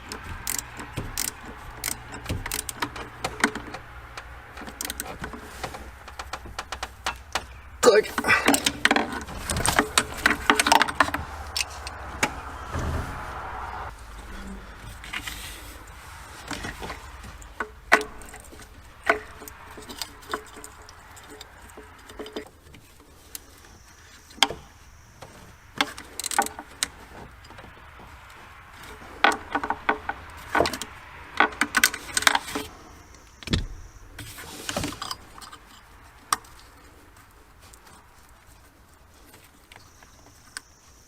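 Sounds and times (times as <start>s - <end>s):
hand tools clattering: 0.0s - 13.3s, 13.9s - 33.6s, 34.2s - 40.6s.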